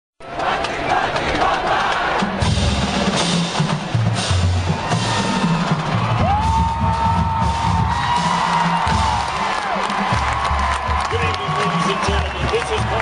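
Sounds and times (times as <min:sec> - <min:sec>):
snare drums: 0:00.4 - 0:13.0
bass drums: 0:02.2 - 0:13.0.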